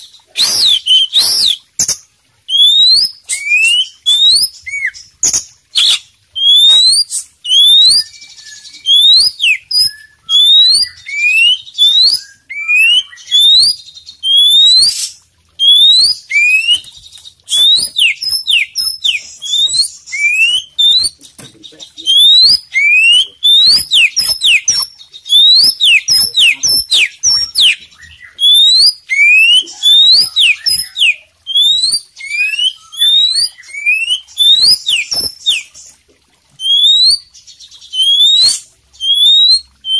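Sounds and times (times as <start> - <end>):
bird singing whistled notes: 0.0 - 35.8, 36.6 - 39.9.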